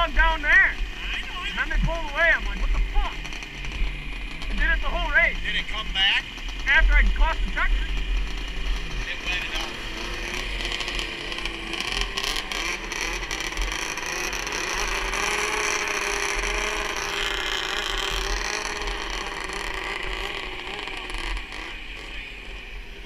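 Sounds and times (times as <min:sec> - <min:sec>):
snowmobile engine idling: 0:00.0 - 0:23.0.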